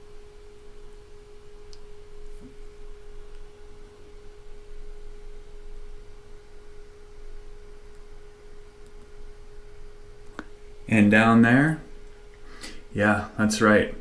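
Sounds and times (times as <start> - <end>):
steady pure tone: 0.0 - 14.0.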